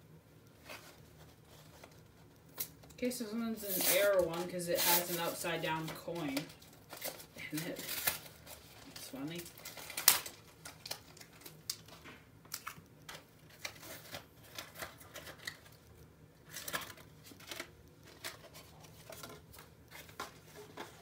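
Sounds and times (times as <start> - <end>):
cards and packaging clicking: 3.7 - 21.0.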